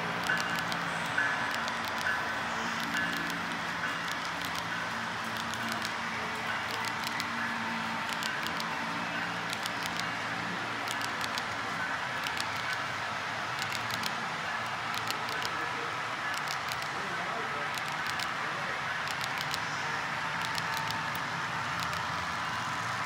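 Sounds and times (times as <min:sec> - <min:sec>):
sharp track clicks: 0:00.0 - 0:22.6
small wheels rolling on rail: 0:00.0 - 0:23.0.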